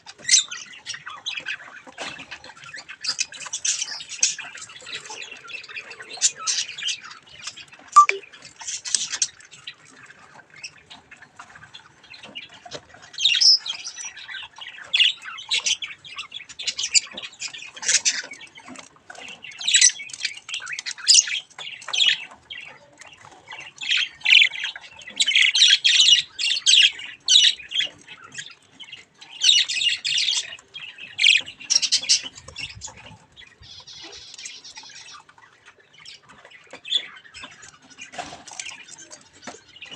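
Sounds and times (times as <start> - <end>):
budgies chattering and squawking: 0.0 - 39.9.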